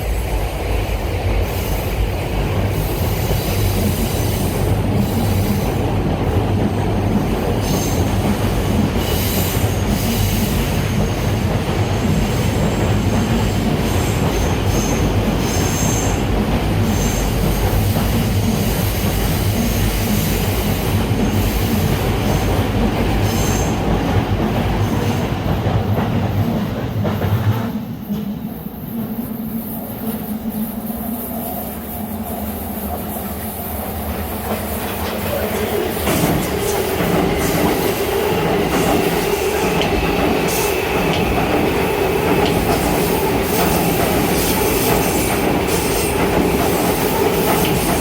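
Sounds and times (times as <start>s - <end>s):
electric train rumbling on rails: 0.0s - 48.0s.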